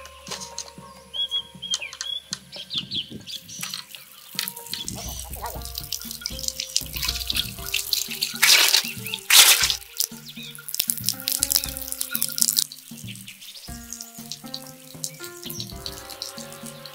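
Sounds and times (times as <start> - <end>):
background music: 0.0 - 16.9
water splashing and running: 2.5 - 16.9.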